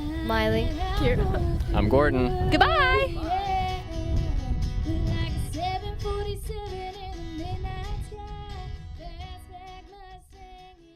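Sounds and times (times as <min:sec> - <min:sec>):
instrumental backing music: 0:00.0 - 0:10.9
woman singing pop song: 0:00.0 - 0:10.9.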